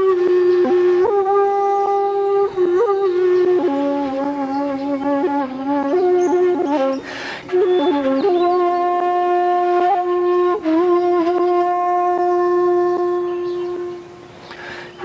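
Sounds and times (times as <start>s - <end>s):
bamboo flute long notes: 0.0s - 15.0s.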